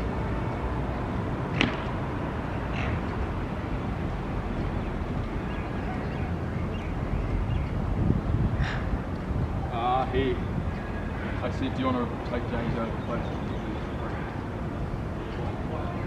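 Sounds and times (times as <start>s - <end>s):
city background rumble: 0.0s - 16.0s.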